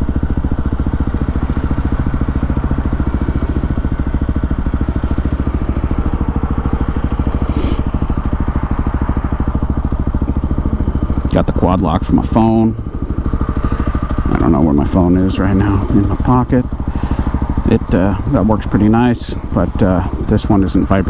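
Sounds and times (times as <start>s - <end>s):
motorcycle engine running steadily: 0.0s - 21.0s.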